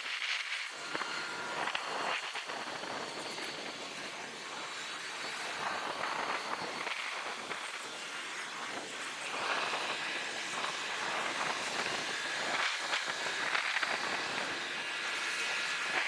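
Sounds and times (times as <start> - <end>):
faint high whine: 0.0 - 16.0
outdoor machinery noise: 0.0 - 16.0.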